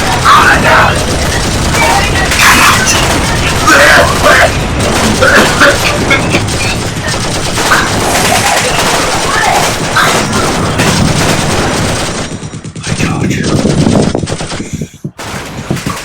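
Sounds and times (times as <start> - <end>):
dense gunfire: 0.0 - 16.0.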